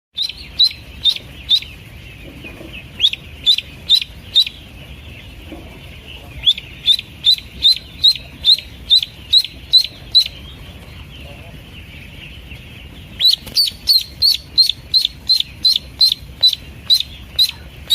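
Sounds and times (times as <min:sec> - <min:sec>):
duckling peeping: 0:00.2 - 0:17.9.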